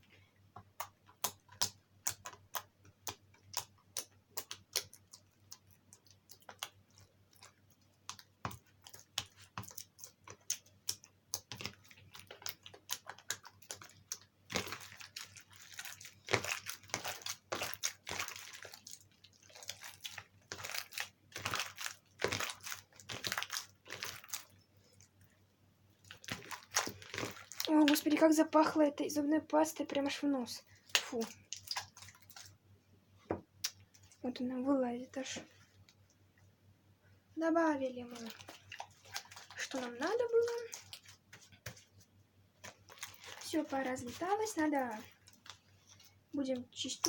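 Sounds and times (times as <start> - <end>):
slime squelching and popping: 0.6 - 25.2, 26.0 - 28.8, 29.8 - 32.6, 37.6 - 42.0, 42.6 - 46.6.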